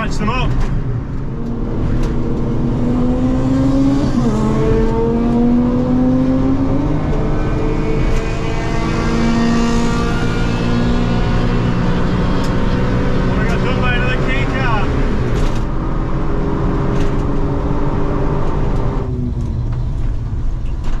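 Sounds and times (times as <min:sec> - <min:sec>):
car engine accelerating hard: 0:00.6 - 0:20.5.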